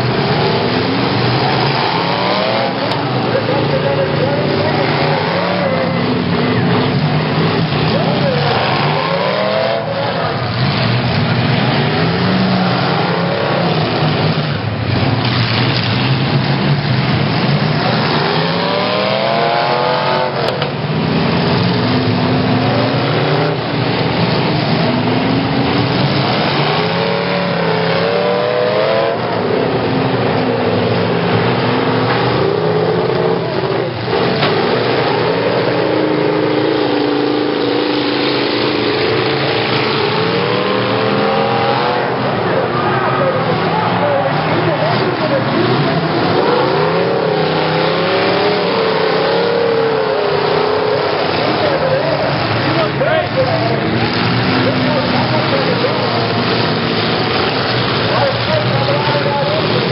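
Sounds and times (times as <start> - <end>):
car engines revving: 0.0 - 59.9
cars crashing: 0.0 - 59.9
loud steady din: 0.0 - 59.9.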